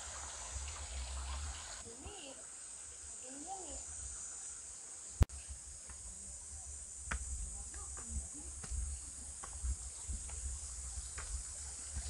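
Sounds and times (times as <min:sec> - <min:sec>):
insects buzzing: 0:01.8 - 0:12.0.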